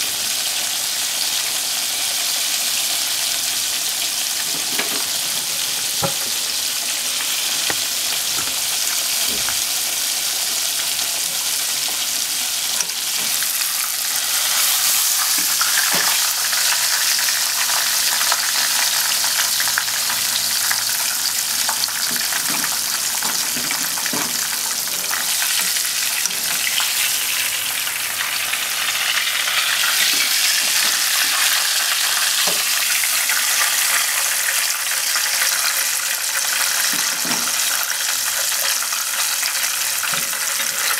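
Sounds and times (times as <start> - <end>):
cutlets sizzling in hot oil: 0.0 - 40.9.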